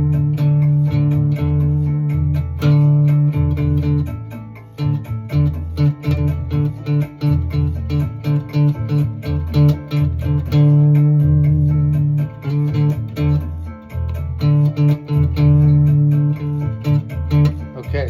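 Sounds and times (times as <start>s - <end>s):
bass line: 0.0s - 18.0s
guitar melody: 0.0s - 18.0s
minor chord backing: 0.0s - 18.0s.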